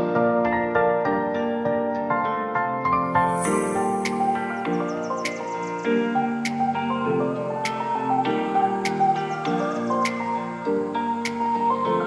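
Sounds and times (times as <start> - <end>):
soft piano-like keyboard music: 0.0 - 12.0.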